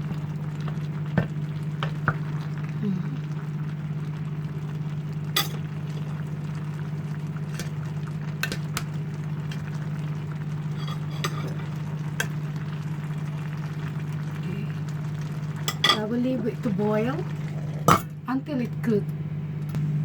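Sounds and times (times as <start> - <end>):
pot of food cooking and stirred: 0.0 - 18.2
steady low hum: 0.0 - 20.0.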